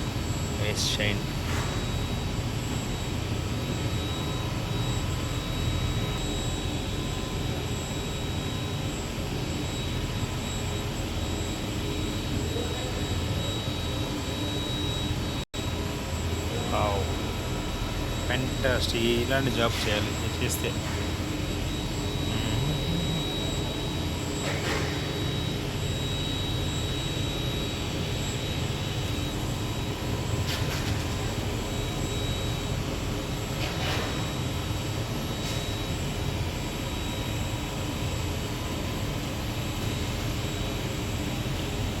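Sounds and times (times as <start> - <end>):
machining centre running with whine: 0.0 - 42.0.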